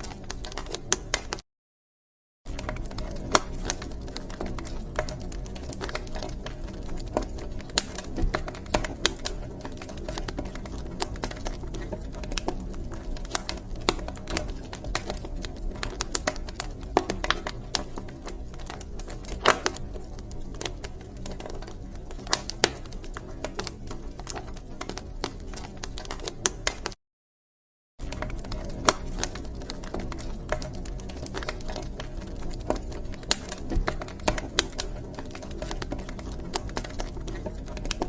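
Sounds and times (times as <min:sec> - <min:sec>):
wood fire crackling: 0:00.0 - 0:01.4, 0:02.5 - 0:27.0, 0:28.0 - 0:38.0.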